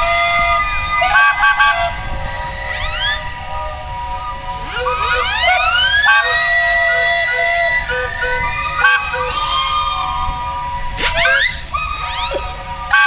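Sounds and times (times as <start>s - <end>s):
steam whistles sounding: 0.0s - 13.0s.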